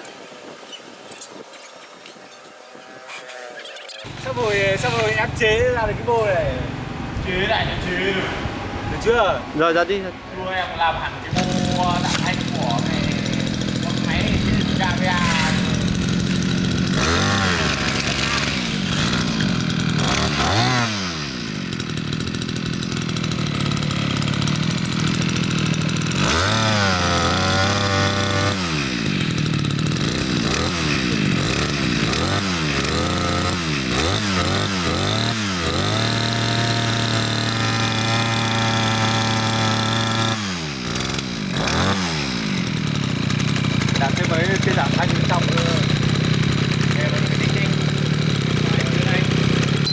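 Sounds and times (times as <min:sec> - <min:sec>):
brush cutter engine revving: 0:02.1 - 0:10.1, 0:10.9 - 0:49.9.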